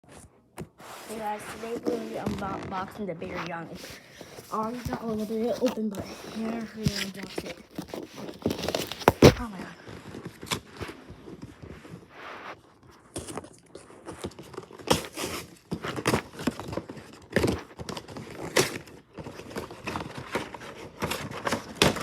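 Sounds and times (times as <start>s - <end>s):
scrapes and light knocks: 0.1s - 22.0s
packaging crinkling: 1.0s - 12.1s, 12.9s - 22.0s.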